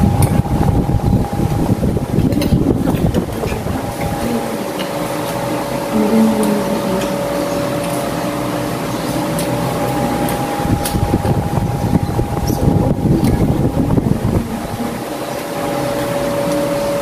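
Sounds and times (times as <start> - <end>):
low rumbling: 0.0 - 17.0
mechanical hum with high tones: 0.0 - 17.0.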